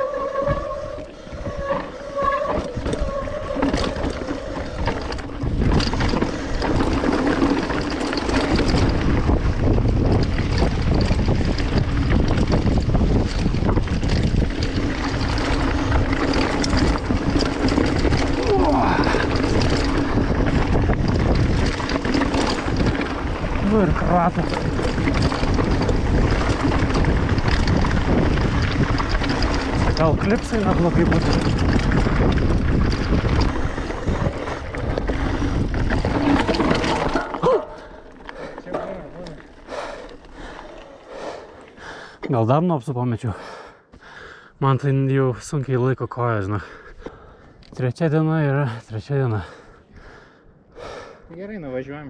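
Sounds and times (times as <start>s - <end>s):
wind buffeting microphone: 0.0s - 42.1s.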